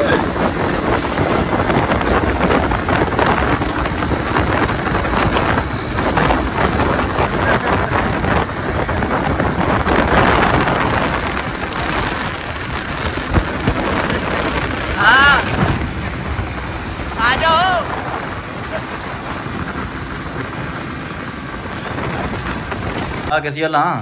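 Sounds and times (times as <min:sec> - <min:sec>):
motorcycle engine: 0:00.0 - 0:23.3
wind rushing over microphone: 0:00.0 - 0:23.3
road noise: 0:00.0 - 0:23.6.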